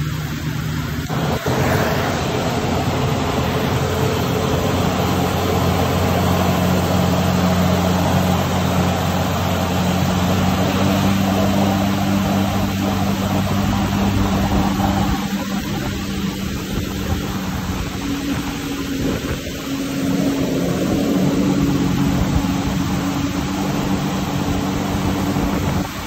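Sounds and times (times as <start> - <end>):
jet ski engine running: 0.0 - 26.0
water spray churning: 0.0 - 26.0.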